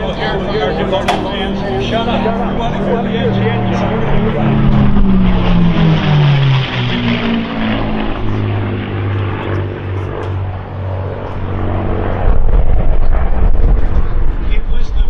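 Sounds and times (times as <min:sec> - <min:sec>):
propeller aircraft engines droning: 0:00.0 - 0:15.0
low rumble: 0:00.5 - 0:14.7.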